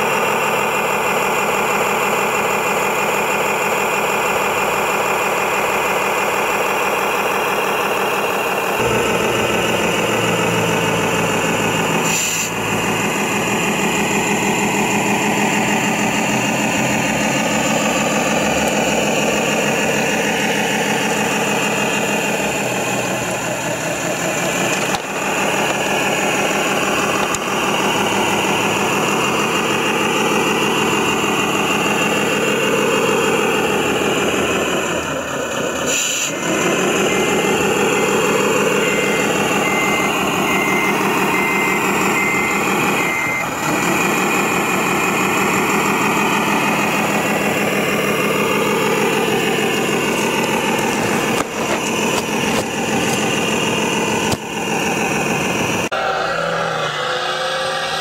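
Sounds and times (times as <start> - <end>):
toy truck engine running: 0.0 - 56.0.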